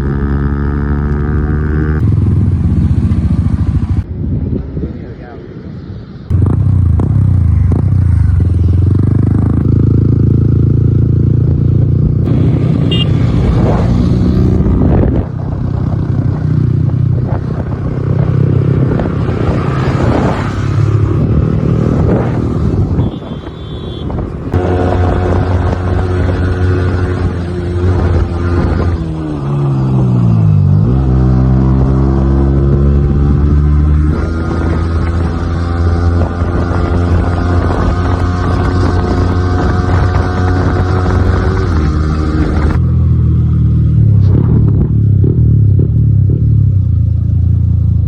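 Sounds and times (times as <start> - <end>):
motorcycle engine running: 0.0 - 4.1, 6.3 - 48.0
road and wind noise: 0.0 - 48.0.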